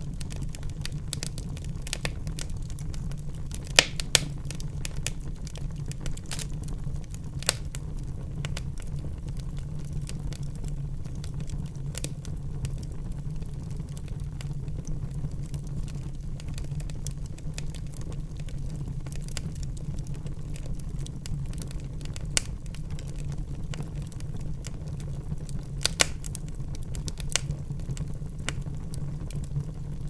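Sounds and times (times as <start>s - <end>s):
fire pops: 0.0s - 30.0s
wood fire crackling: 0.0s - 30.0s.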